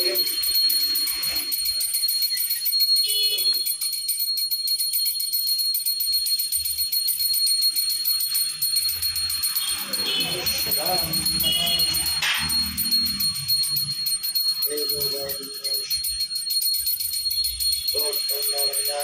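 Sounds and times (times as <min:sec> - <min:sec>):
hand bell ringing rapidly: 0:00.0 - 0:19.0.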